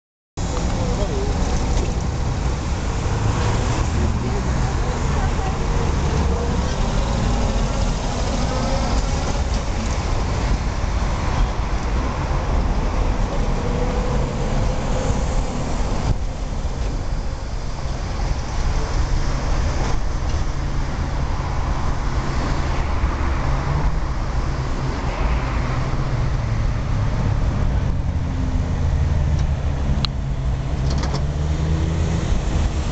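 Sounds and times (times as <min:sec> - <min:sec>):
street traffic noise: 0:00.4 - 0:32.9
tram running through curve: 0:00.4 - 0:32.9.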